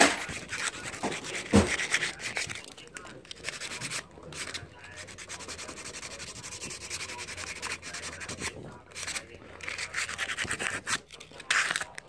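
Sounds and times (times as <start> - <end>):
sandpaper rubbing on metal: 0.0 - 2.6, 3.4 - 11.8.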